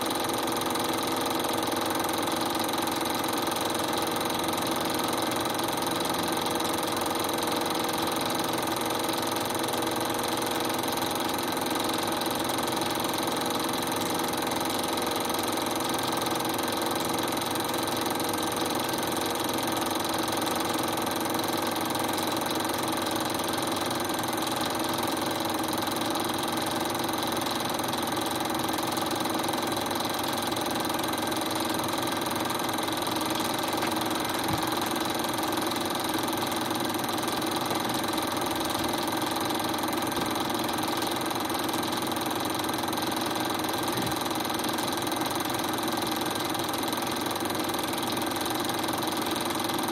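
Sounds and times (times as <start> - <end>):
film projector whirring and clattering: 0.0 - 49.9.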